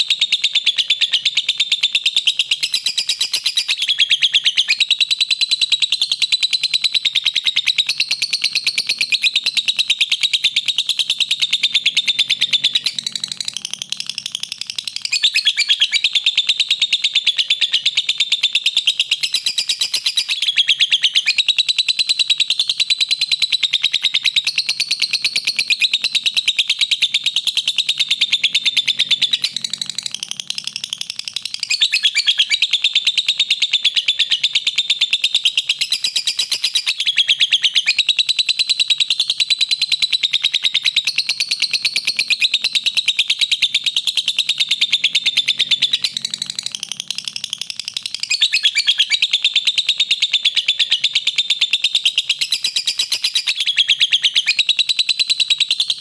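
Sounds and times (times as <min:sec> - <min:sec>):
lovebird chattering song: 0:00.0 - 0:56.0.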